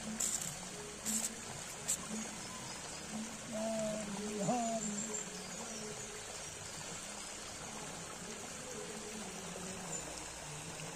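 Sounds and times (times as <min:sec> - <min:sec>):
shallow water rippling over sand: 0:00.0 - 0:10.9.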